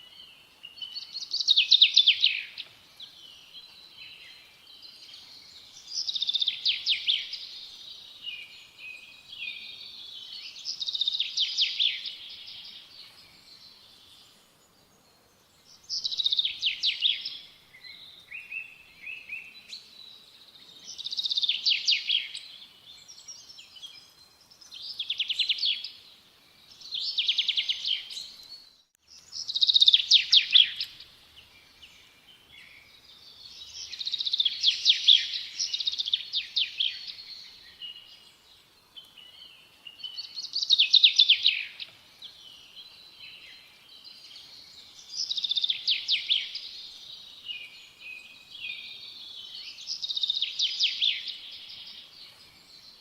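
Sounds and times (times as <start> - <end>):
songbird singing trilled phrases: 0.0 - 14.4, 15.6 - 53.0.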